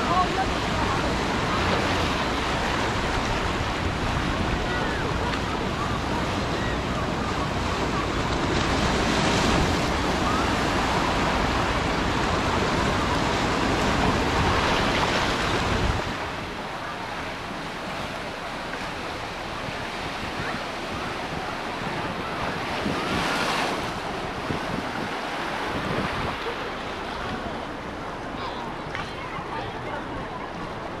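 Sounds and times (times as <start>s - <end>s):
ocean surf on beach: 0.0s - 31.0s
wind buffeting microphone: 0.0s - 31.0s.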